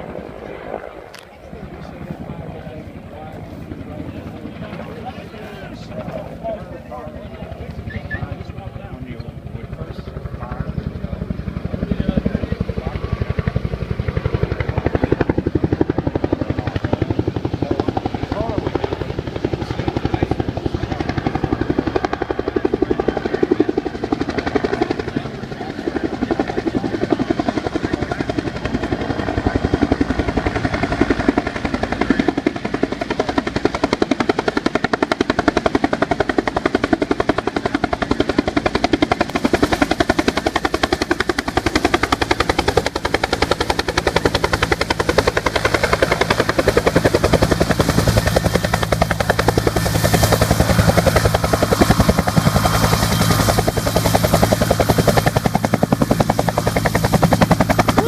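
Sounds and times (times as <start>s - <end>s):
helicopter rotor chopping: 0.0s - 58.0s.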